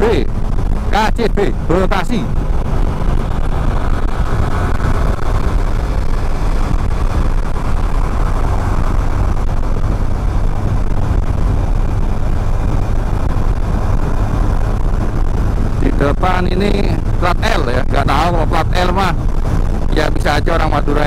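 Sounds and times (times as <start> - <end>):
motorcycle engine: 0.0 - 21.0
wind rush on microphone: 0.0 - 21.0.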